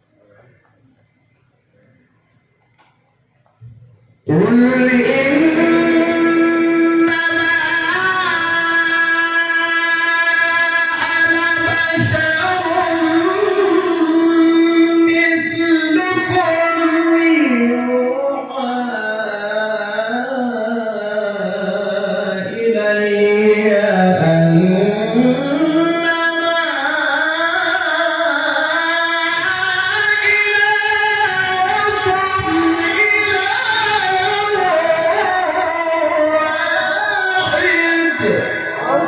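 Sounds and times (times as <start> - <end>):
man reciting melodically: 4.2 - 39.0.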